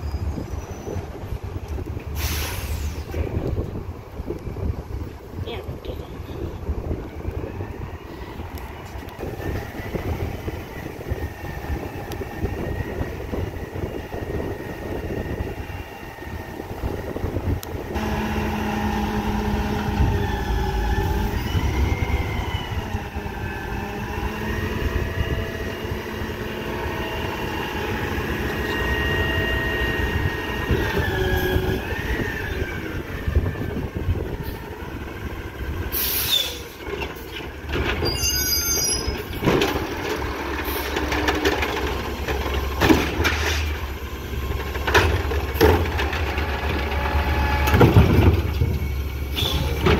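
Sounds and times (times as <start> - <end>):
garbage truck engine: 6.0 - 49.9.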